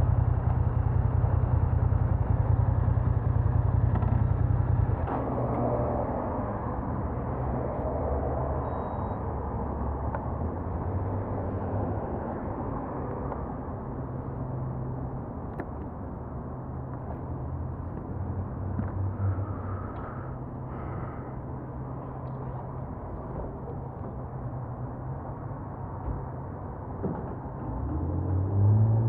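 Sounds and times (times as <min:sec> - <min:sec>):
constant low hum: 0:00.0 - 0:29.0.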